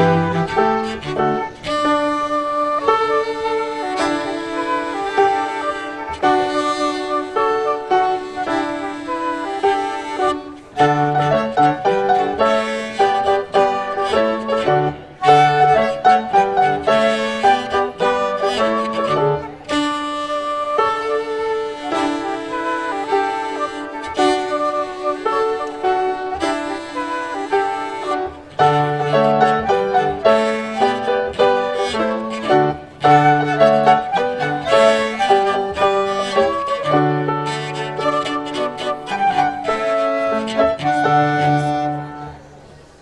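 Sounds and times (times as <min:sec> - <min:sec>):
chamber ensemble playing: 0:00.0 - 0:42.7.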